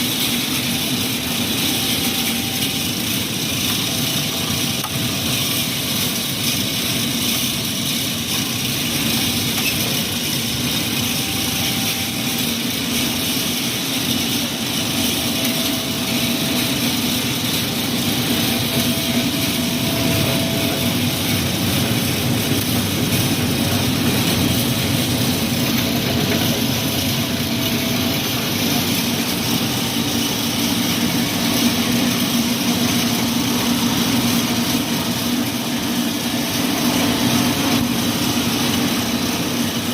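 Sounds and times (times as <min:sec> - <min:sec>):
machinery drone with hiss: 0:00.0 - 0:39.9.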